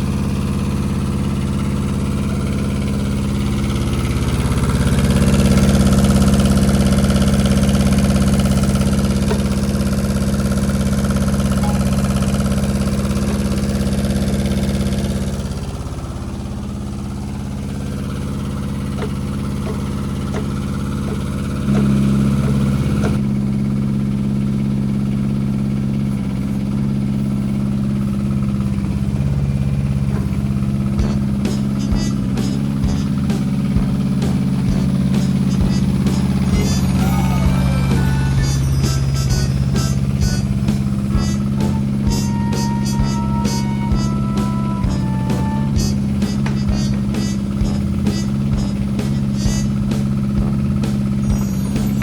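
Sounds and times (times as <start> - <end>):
mini excavator diesel engine: 0.0 - 52.0.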